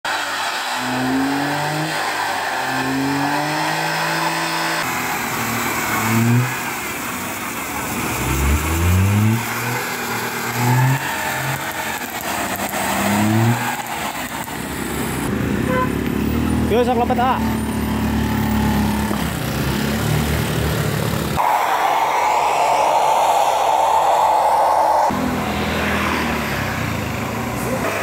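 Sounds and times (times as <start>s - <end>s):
car engine revving: 0.1s - 28.0s.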